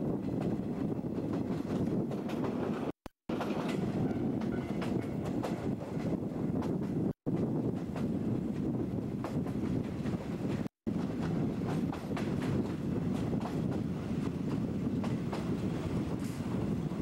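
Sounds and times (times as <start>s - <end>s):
train wheels rumbling on rail: 0.0s - 17.0s
wind on microphone: 0.0s - 17.0s.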